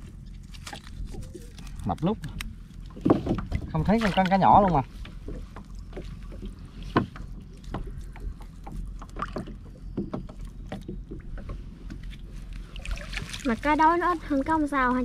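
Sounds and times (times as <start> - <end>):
low steady rumble: 0.0 - 15.0
water splashing: 0.0 - 15.0.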